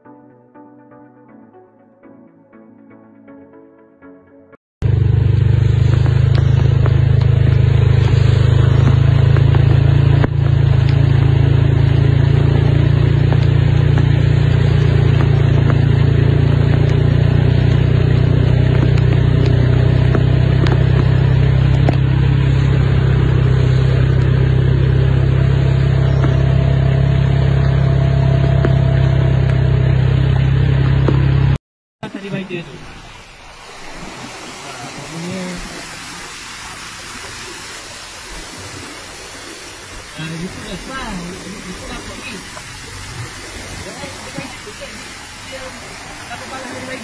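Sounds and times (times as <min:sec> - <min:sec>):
vehicle engine humming: 0:04.8 - 0:47.0.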